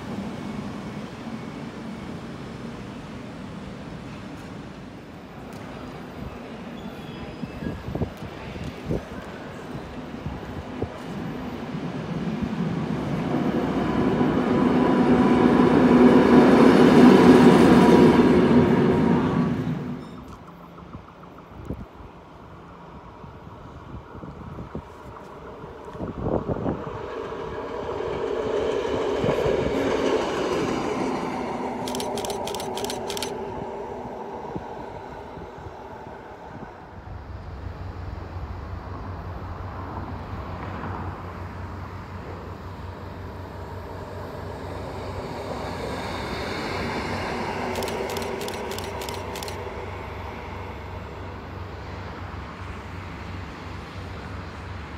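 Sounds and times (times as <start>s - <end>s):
clicks of passing train: 0.0s - 54.9s
diesel locomotive engine drone: 0.0s - 54.9s.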